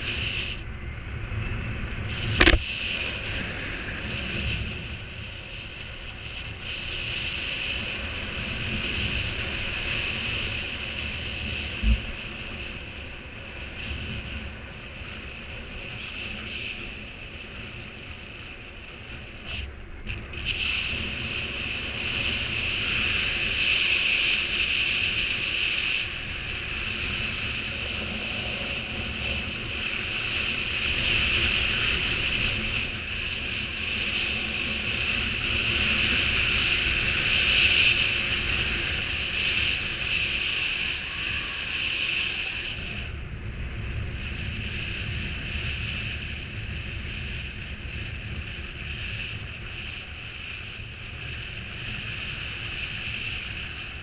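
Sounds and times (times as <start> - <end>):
strong wind on microphone: 0.0 - 54.0.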